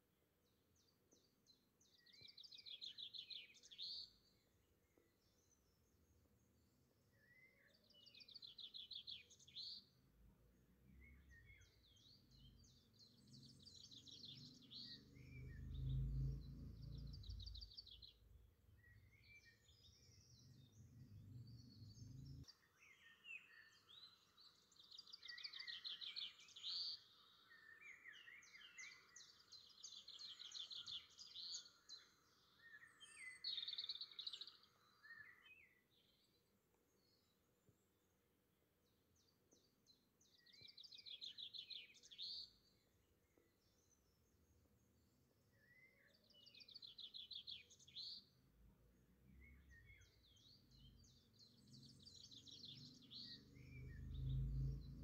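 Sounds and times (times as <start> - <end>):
small birds trilling and chirping: 0.0 - 55.0.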